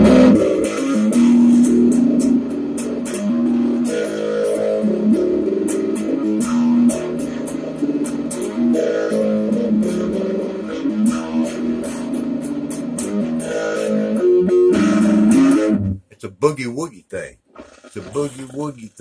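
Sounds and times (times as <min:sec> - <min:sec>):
electric guitar boogie riff: 0:00.0 - 0:19.0.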